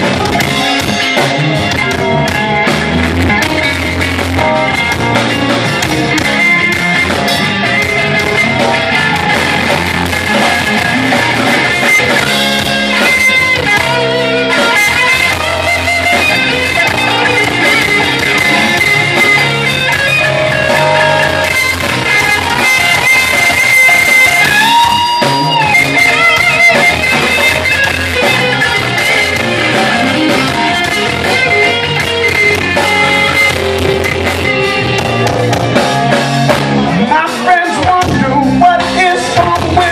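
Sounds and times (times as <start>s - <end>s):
blues rock band playing: 0.0s - 39.9s
electric guitar: 0.0s - 39.9s.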